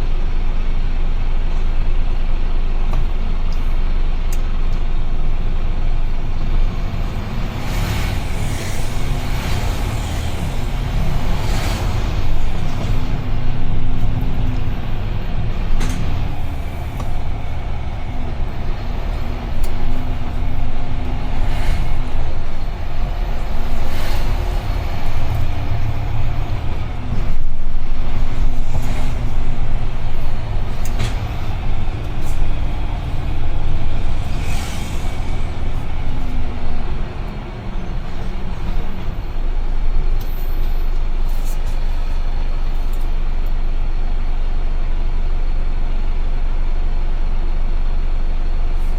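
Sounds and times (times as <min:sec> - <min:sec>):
truck diesel engine rumbling: 0:00.0 - 0:48.9.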